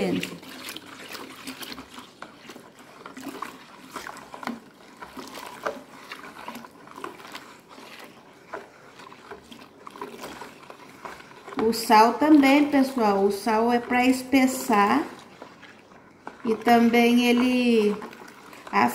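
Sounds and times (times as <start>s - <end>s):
spatula stirring: 0.0s - 18.9s
water pouring into basin: 0.0s - 18.9s.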